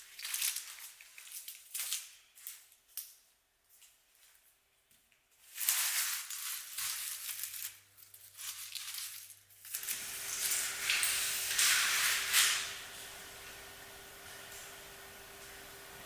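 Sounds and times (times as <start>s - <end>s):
packaging rustling and crinkling: 0.0s - 13.1s.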